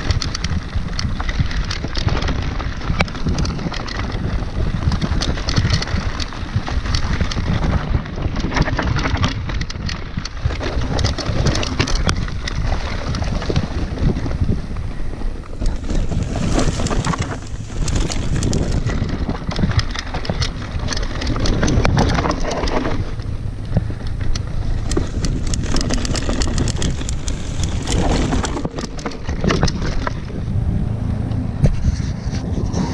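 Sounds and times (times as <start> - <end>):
bike rattling over bumps: 0.0 - 32.9
tyres rumbling over dirt: 0.0 - 32.9
wind buffeting microphone: 0.0 - 32.9.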